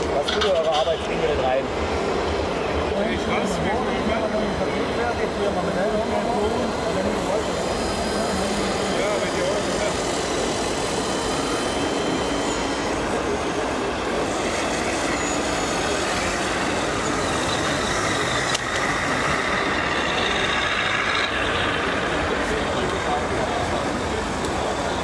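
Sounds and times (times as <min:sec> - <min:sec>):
model trucks running: 0:00.0 - 0:25.0.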